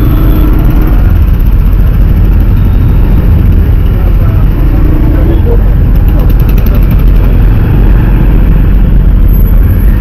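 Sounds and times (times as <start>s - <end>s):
motorcycle engine running: 0.0s - 10.0s
road noise: 0.0s - 10.0s.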